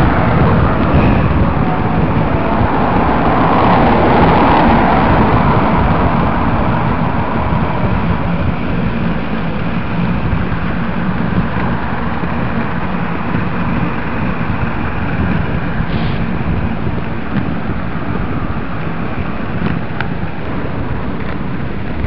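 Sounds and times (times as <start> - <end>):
skate wheels rolling on asphalt: 0.0 - 22.0.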